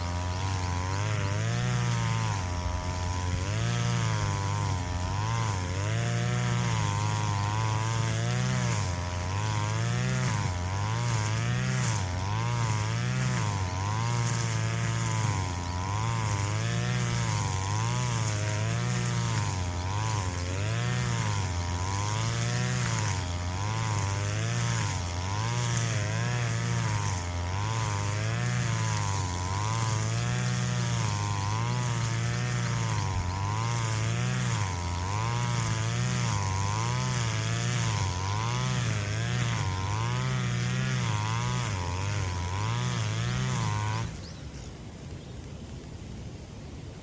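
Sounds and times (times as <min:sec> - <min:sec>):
brush cutter cutting grass: 0:00.0 - 0:46.3.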